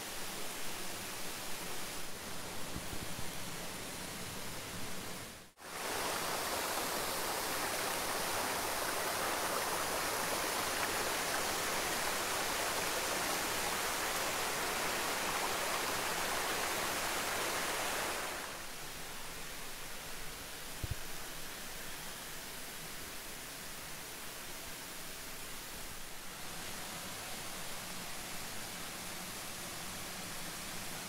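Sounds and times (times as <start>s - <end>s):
rushing stream and waterfall: 0.0s - 31.0s.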